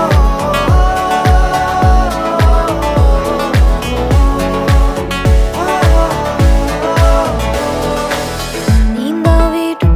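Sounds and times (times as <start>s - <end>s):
pop song with bass drum: 0.0s - 9.9s.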